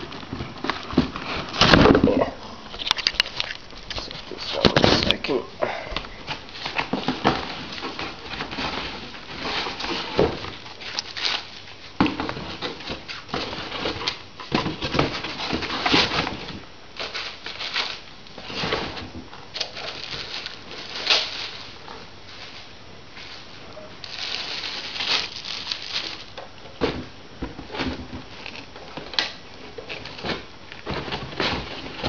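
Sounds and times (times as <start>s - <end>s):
packaging rustling: 0.0s - 26.9s.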